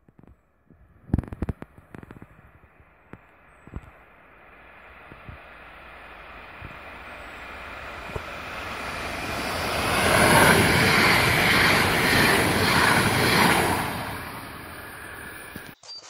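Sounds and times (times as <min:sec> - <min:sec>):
electric train passing: 0:02.9 - 0:15.8.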